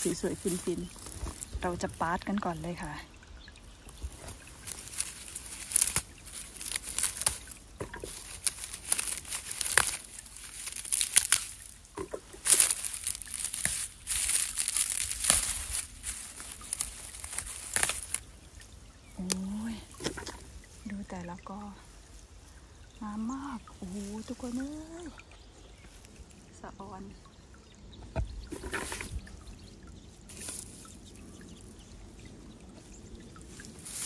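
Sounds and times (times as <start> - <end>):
dry leaves rustling and crackling: 0.0 - 26.5, 28.5 - 29.4, 30.2 - 34.0.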